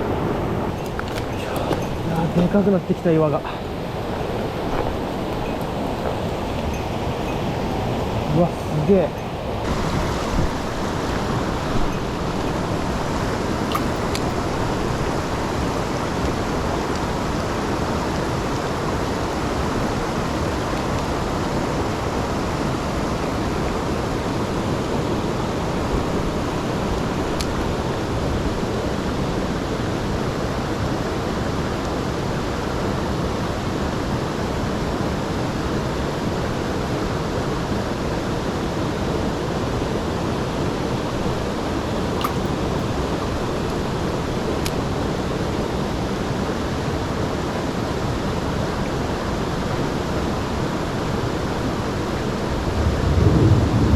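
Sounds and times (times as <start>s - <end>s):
stream rushing over rocks: 0.0s - 53.2s.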